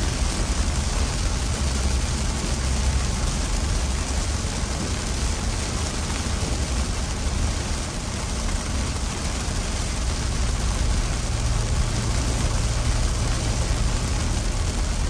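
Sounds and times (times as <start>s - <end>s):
car rumbling on wet road: 0.0s - 15.0s
heavy rain on car windshield: 0.0s - 15.0s.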